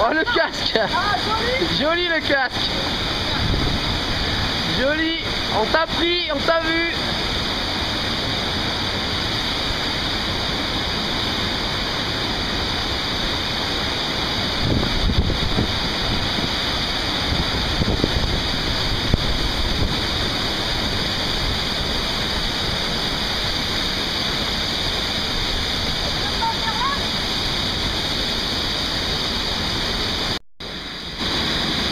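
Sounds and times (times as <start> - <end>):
waterfall roaring: 0.0 - 31.9.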